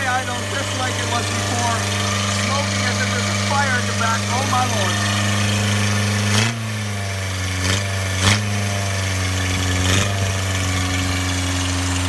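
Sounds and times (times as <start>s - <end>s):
car engine high idle: 0.0s - 12.0s.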